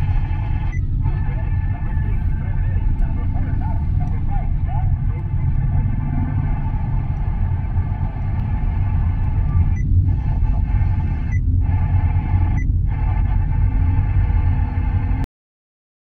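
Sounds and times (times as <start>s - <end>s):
faint steady tones: 0.0s - 15.2s
vehicle rumbling: 0.0s - 15.2s.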